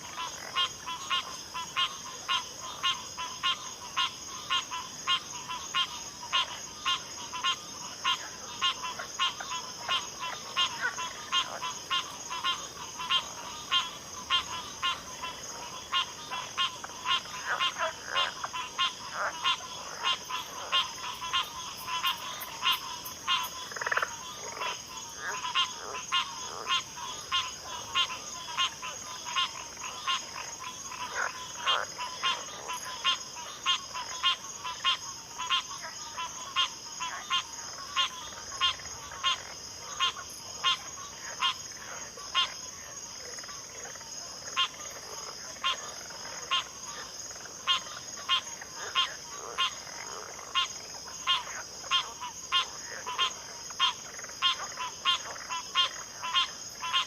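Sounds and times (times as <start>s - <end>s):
frogs calling: 0.0s - 57.0s.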